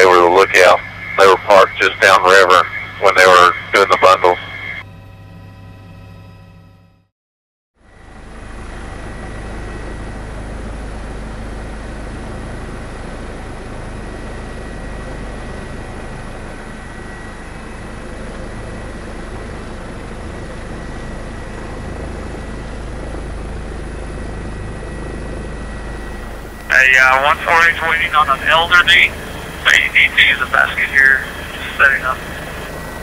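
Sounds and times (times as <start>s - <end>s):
aircraft engine drone: 0.0s - 7.1s, 7.8s - 33.0s
high whine: 0.0s - 7.1s, 7.8s - 33.0s.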